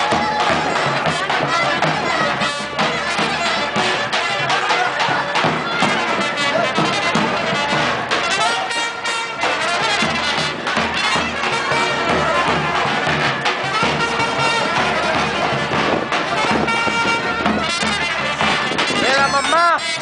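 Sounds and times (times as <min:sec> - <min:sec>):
folk dance music: 0:00.0 - 0:20.0.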